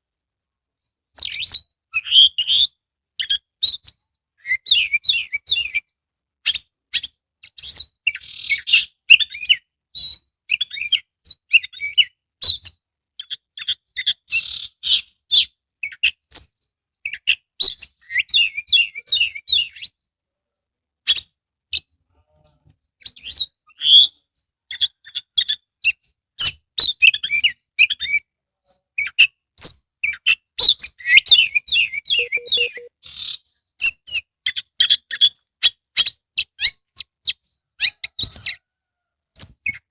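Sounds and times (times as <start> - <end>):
bird singing whistles and trills: 0.8 - 20.0, 23.0 - 38.7.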